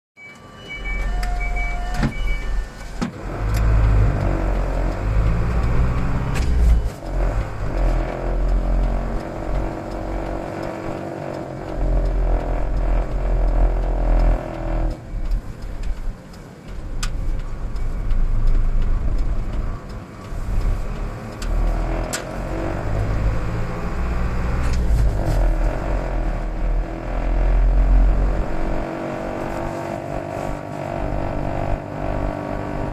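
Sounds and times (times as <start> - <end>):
low droning rumble in truck cab: 0.7 - 32.9
sharp ticks: 2.7 - 32.9.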